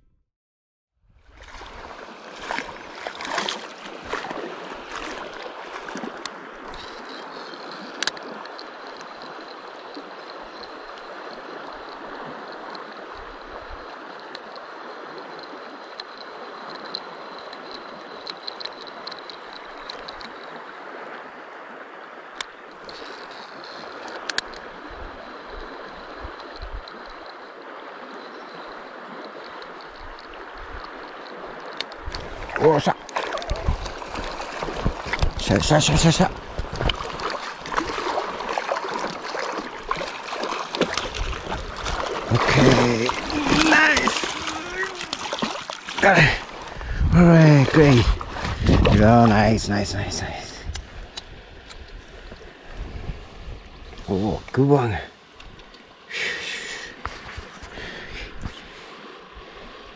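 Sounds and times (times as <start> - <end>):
river water flowing: 1.2 - 59.9.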